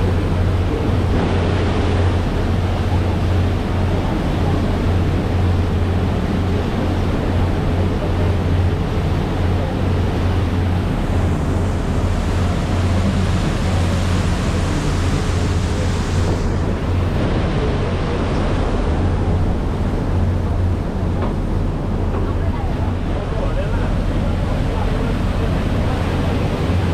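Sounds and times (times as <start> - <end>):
boat engine droning: 0.0 - 26.9
wind and water rushing: 0.0 - 26.9.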